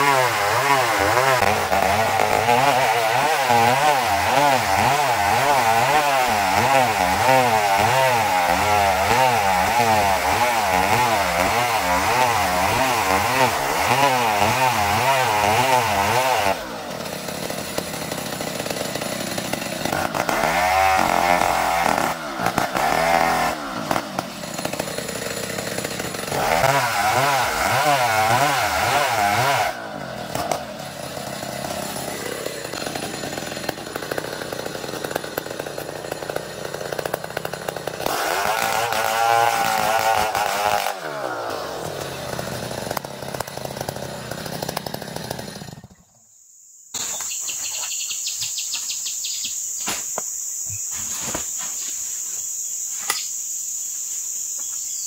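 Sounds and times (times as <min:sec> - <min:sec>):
chainsaw cutting log: 0:00.0 - 0:46.0, 0:47.0 - 0:55.0.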